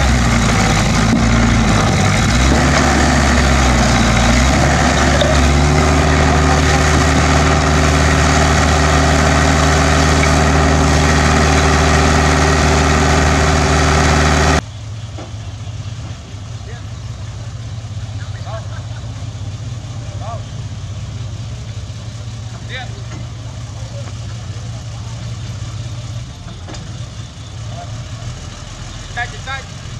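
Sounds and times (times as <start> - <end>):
heavy diesel engine running: 0.0 - 29.9.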